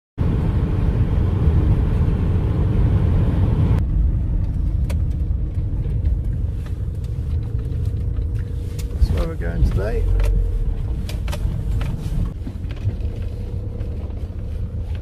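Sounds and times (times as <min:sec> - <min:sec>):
van engine and road rumble: 0:00.2 - 0:15.0.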